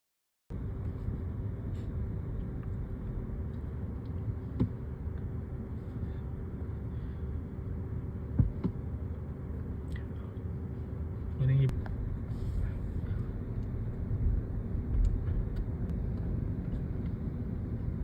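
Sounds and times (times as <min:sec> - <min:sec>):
faint steady hum: 0:00.5 - 0:18.0
low rumble of hall noise: 0:00.5 - 0:18.0.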